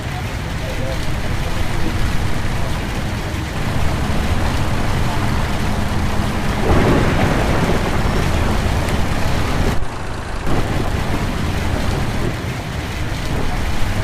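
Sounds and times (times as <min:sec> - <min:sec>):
bus engine and road noise: 0:00.0 - 0:14.0
heavy rain: 0:00.0 - 0:14.0.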